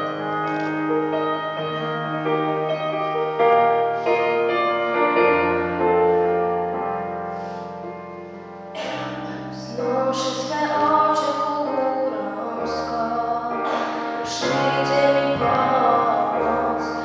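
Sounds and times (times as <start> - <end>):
keyboard playing sustained chords: 0.0 - 17.0.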